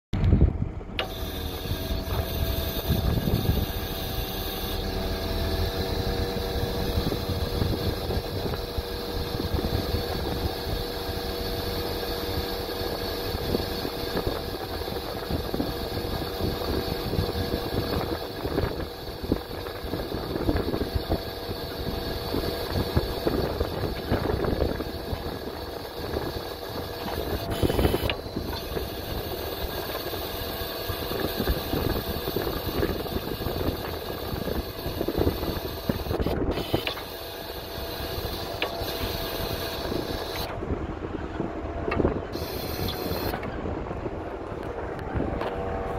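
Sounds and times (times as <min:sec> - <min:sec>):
diesel truck engine running: 0:00.2 - 0:45.9
steady tone: 0:01.0 - 0:45.9.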